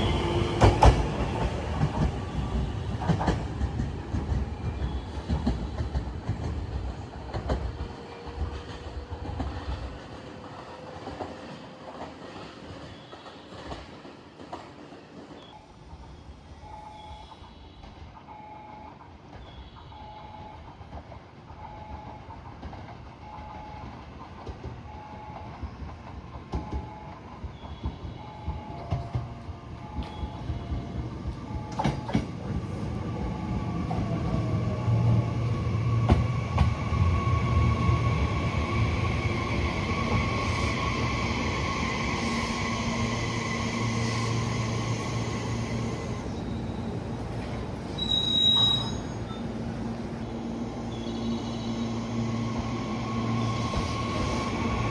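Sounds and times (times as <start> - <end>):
train running: 0.0 - 54.9.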